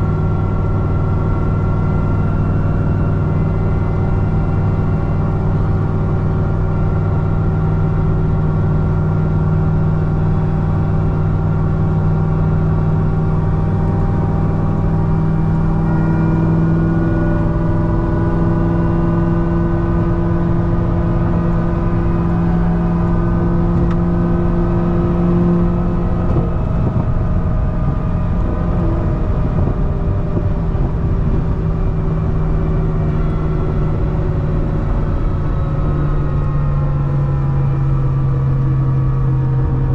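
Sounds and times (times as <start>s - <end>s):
car engine cruising: 0.0s - 39.9s
supercharger whine: 0.0s - 39.9s.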